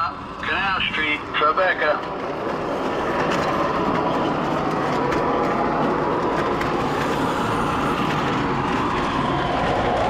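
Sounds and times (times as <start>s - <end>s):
model train rolling hum: 0.0s - 10.0s
clicks over rail joints: 1.8s - 10.0s.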